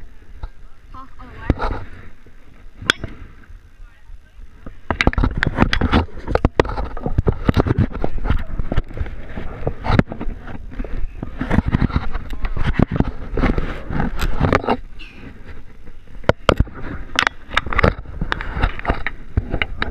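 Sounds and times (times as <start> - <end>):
camera rubbing against glove: 1.0 - 3.5, 4.5 - 19.9.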